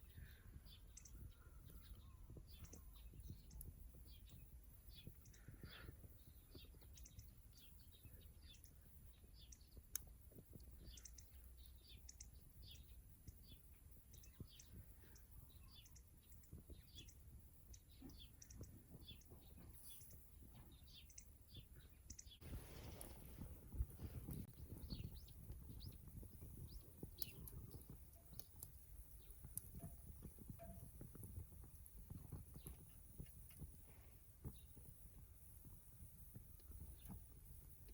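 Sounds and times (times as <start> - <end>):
small birds chirping: 0.0 - 37.9
wood fire crackling: 0.0 - 37.9.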